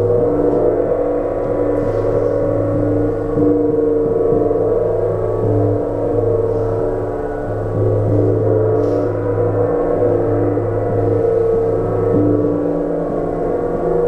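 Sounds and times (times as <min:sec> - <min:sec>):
large gong ringing: 0:00.0 - 0:14.0.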